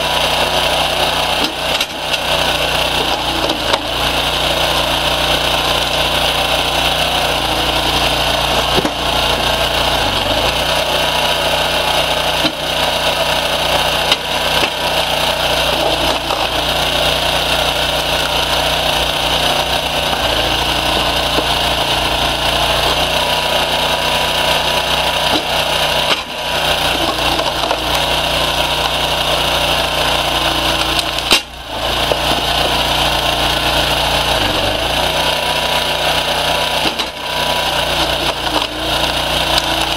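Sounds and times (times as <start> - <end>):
hydraulic power unit whining: 0.0 - 39.9
log cracking and splitting: 0.2 - 39.9.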